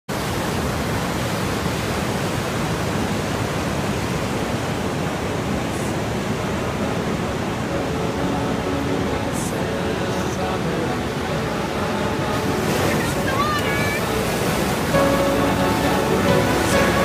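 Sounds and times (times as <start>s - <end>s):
ocean surf over rocks: 0.1s - 17.0s.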